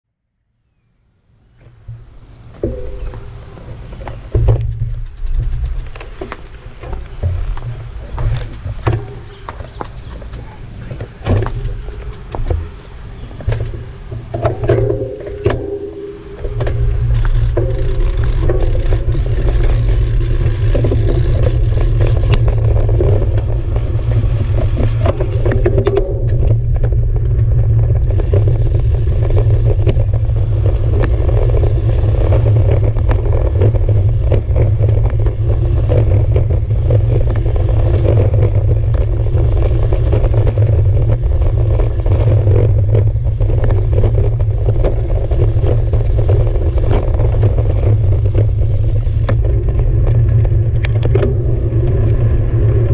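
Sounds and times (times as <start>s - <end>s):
wind rumble on microphone: 0.7s - 52.9s
bicycle rattling over stone paving: 1.9s - 52.9s.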